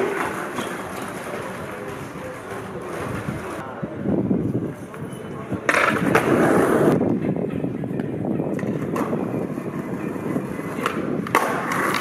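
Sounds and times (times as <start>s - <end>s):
skateboard wheels rolling on stone: 0.0s - 3.6s, 4.4s - 12.0s.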